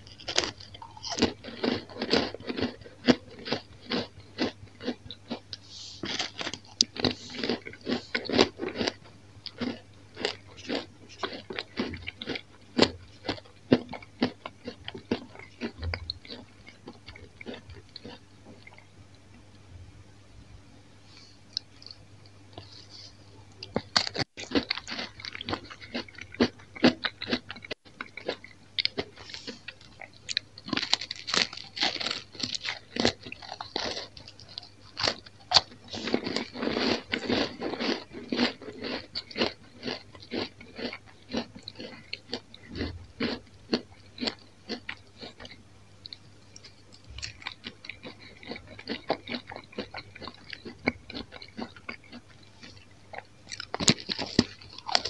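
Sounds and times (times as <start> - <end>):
crisp bread crunching: 0.0 - 18.8, 23.6 - 45.5, 46.1 - 55.0.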